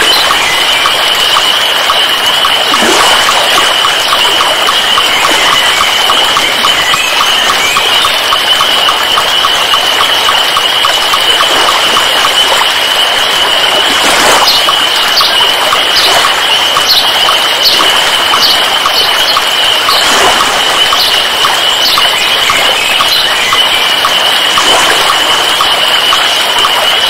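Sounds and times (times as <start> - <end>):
constant high-pitched tone: 0.0 - 27.0
fast even ticking: 0.0 - 27.0.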